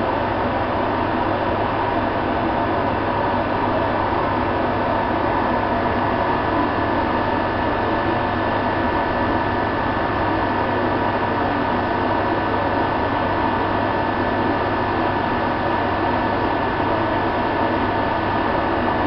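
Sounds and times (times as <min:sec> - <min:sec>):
cooling fans rushing: 0:00.0 - 0:19.0.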